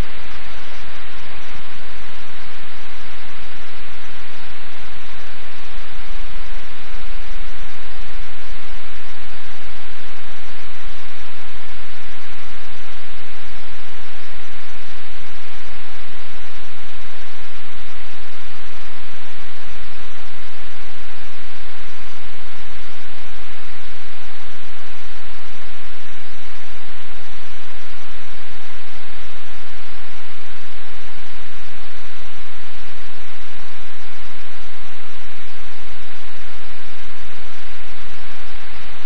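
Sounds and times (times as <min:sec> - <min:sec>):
loud steady static hiss: 0:00.0 - 0:39.0.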